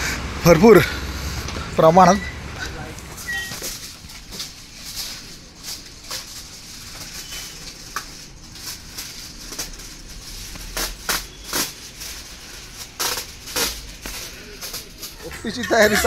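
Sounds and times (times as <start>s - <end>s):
dry straw rustling and crackling: 3.0s - 16.0s.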